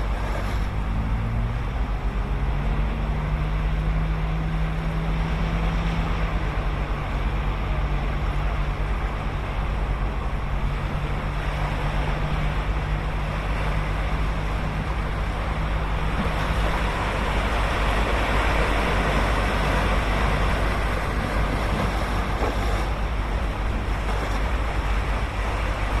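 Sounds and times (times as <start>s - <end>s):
ocean waves breaking on beach: 0.0s - 26.0s.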